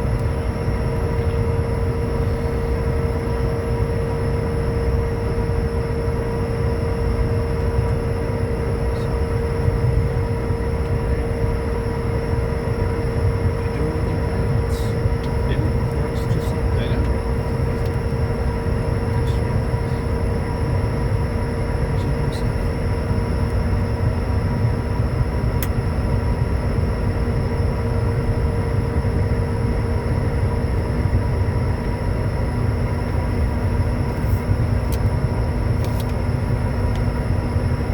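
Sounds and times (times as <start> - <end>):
jet cockpit low rumble: 0.0 - 37.9
steady engine and system tones: 0.0 - 37.9.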